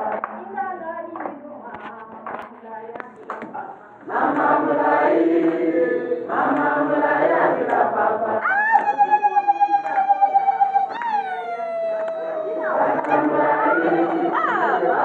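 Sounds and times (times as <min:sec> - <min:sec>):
group of people singing: 0:00.0 - 0:11.2, 0:12.0 - 0:15.0.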